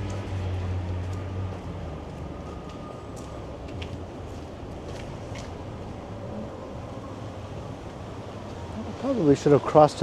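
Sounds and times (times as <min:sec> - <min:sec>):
traffic noise: 0:00.0 - 0:10.0
vehicle engine drone: 0:00.0 - 0:10.0.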